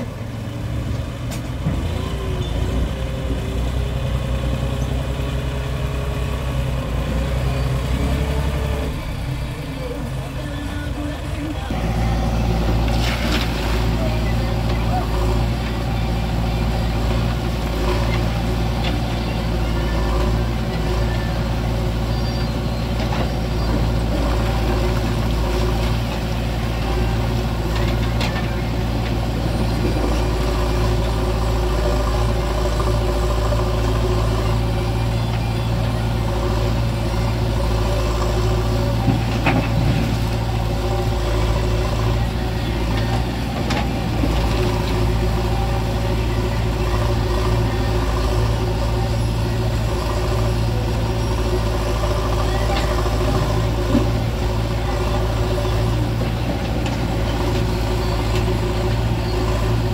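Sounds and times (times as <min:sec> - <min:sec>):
backhoe diesel engine running: 0:00.0 - 0:59.9
tractor engine running: 0:00.0 - 0:59.9.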